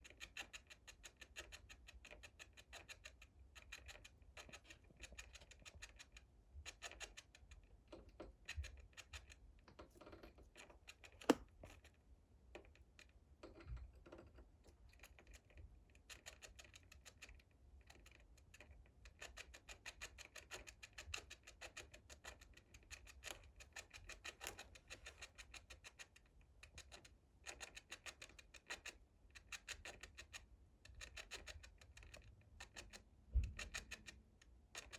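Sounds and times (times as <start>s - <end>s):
pet claws scratching: 0.0s - 34.2s.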